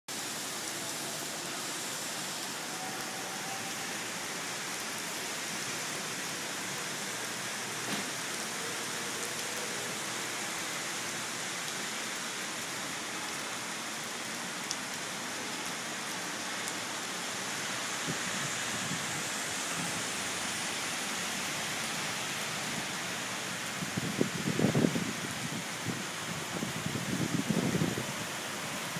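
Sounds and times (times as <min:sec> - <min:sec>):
rain on street: 0:00.1 - 0:28.9.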